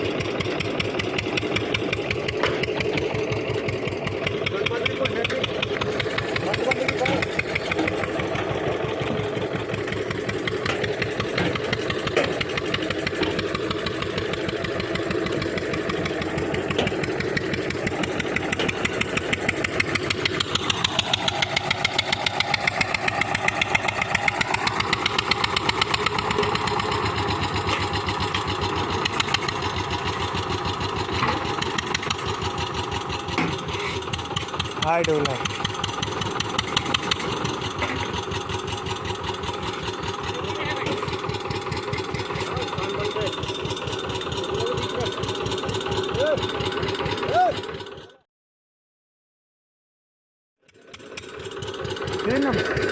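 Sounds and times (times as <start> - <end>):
tractor diesel engine running: 0.0 - 48.2, 50.6 - 52.9.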